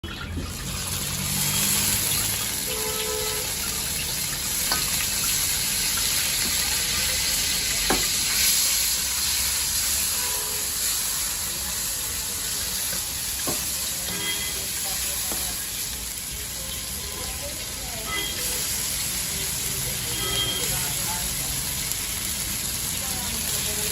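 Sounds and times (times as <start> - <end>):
food sizzling in hot oil: 0.0 - 23.9.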